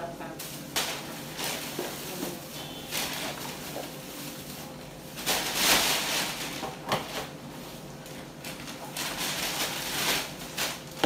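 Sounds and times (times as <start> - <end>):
plastic bags rustling: 0.1 - 11.0.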